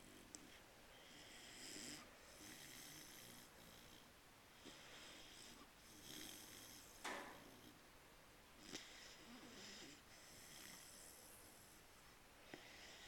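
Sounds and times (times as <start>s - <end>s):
puppy snoring faintly: 0.0s - 7.8s, 8.6s - 13.0s.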